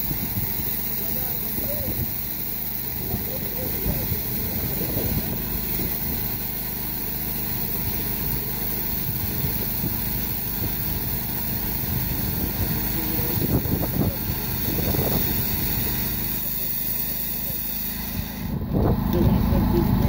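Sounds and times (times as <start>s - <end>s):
core drill boring asphalt: 0.0s - 20.0s
portable generator running: 0.0s - 20.0s.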